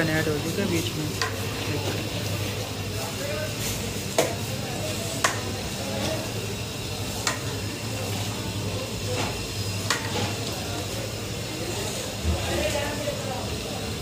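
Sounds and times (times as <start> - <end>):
sizzling and bubbling: 0.0 - 14.0.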